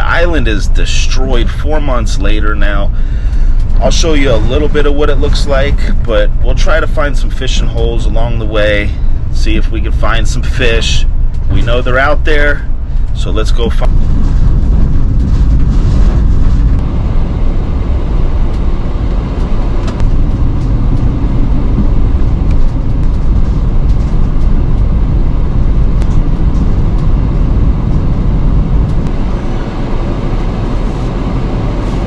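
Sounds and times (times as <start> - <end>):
van engine and tyre rumble: 0.0 - 32.0.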